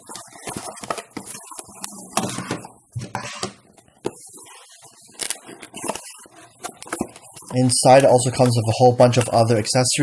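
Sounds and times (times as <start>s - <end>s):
packaging rustling: 0.0s - 3.0s, 3.6s - 9.7s.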